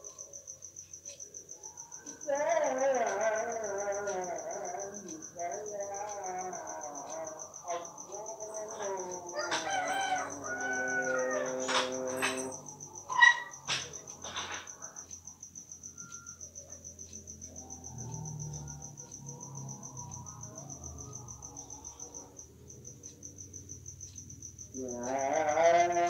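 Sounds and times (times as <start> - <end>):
cricket chirping: 0.0 - 26.0
faint distant chanting: 0.0 - 26.0.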